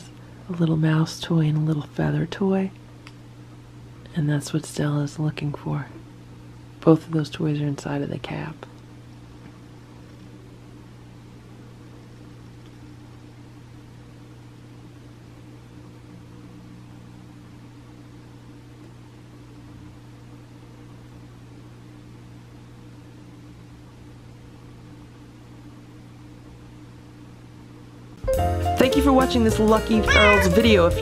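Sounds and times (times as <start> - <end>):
steady low hum: 0.0 - 28.2.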